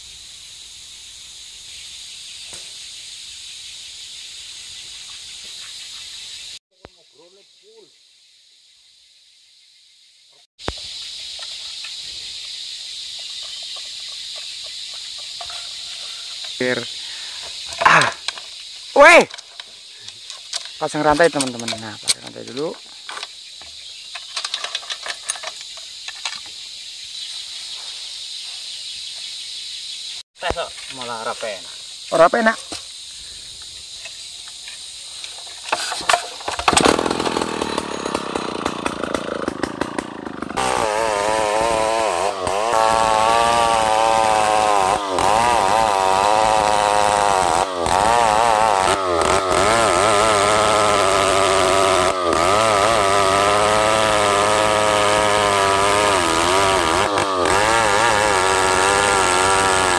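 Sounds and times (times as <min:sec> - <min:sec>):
forest insects chorus: 0:00.0 - 0:59.9.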